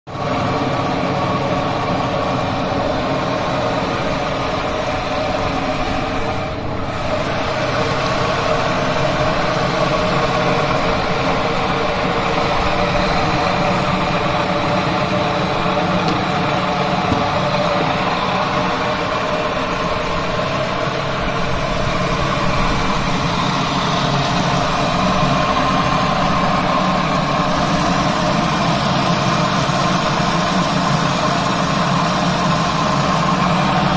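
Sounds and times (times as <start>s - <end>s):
machine motor running: 0.1s - 33.9s.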